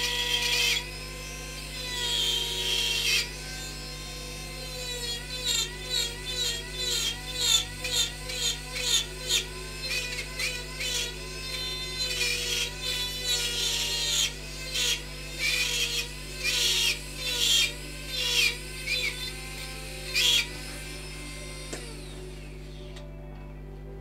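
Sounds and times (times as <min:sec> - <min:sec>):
rotary tool grinding wood: 0:00.0 - 0:23.2.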